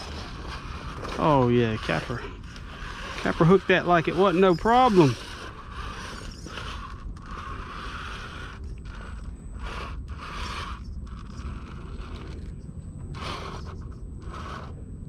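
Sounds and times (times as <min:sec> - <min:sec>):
electric motor whirring: 0:00.0 - 0:15.0.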